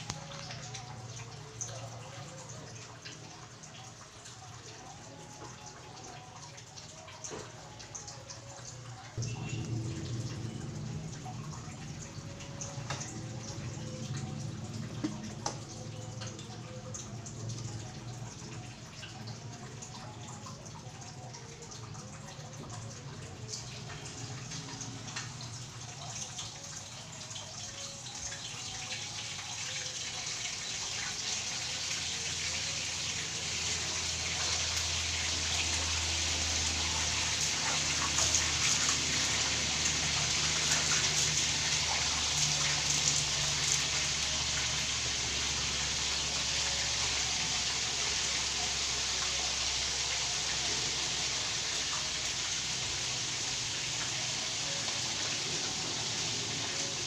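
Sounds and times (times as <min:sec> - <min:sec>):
chicken frying in hot oil: 0:00.0 - 0:57.0.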